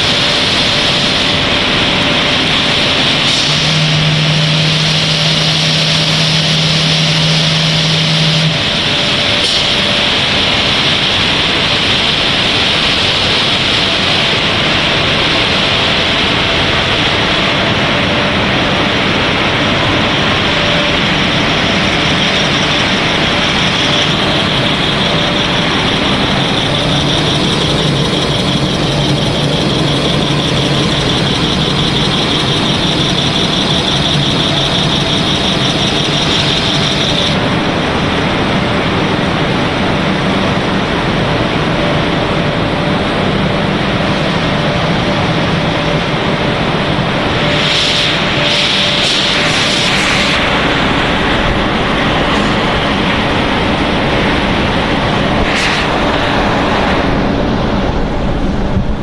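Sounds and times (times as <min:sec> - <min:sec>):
faint humming tones: 0:00.0 - 0:47.6
low hum: 0:00.0 - 0:59.0
machine whirring with high hiss: 0:00.0 - 0:59.0.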